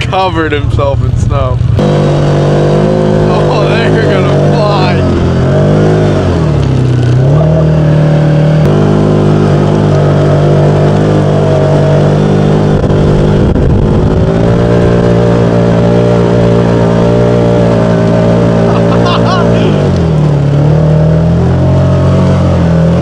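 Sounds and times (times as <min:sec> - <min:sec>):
utility vehicle engine running: 0:00.0 - 0:23.0.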